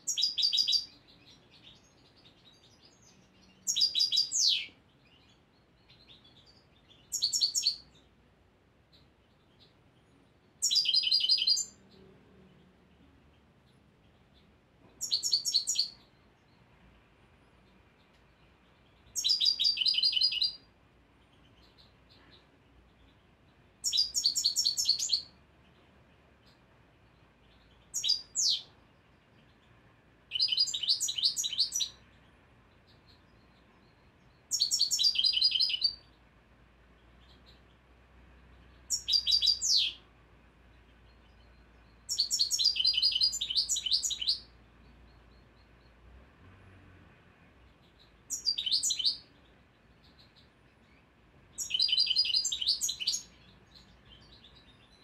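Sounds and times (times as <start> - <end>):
goldfinch twittering song: 0.0 - 8.1, 8.9 - 16.7, 17.6 - 36.2, 38.5 - 40.1, 40.7 - 46.1, 47.6 - 55.0.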